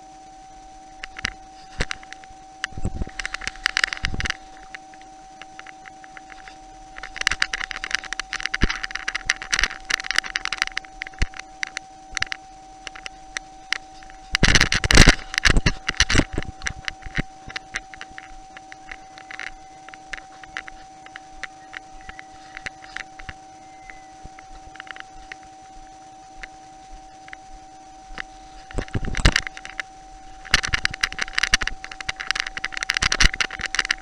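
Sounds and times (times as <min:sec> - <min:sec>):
faint electronic hum: 0:00.0 - 0:34.0
crunching and clicking: 0:00.9 - 0:34.0.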